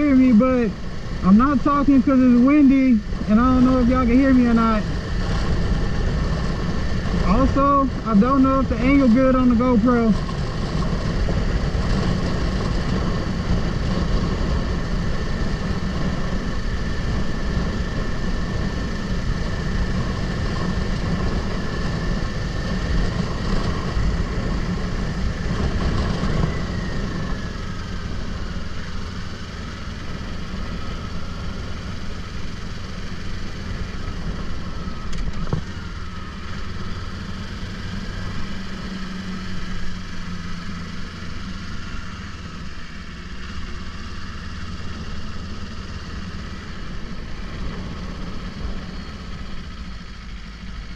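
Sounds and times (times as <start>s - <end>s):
low wind rumble on microphone: 0.0s - 50.9s
motorcycle engine running: 0.0s - 50.9s.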